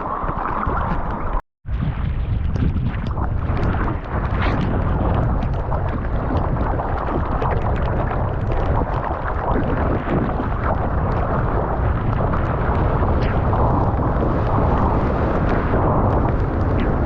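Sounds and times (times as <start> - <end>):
sea splashing: 0.0 - 17.0
wind buffeting microphone: 0.0 - 17.0.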